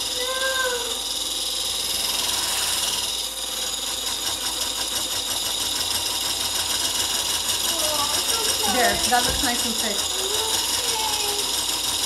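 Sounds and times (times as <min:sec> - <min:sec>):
electric whisk in glass bowl: 0:00.0 - 0:12.0.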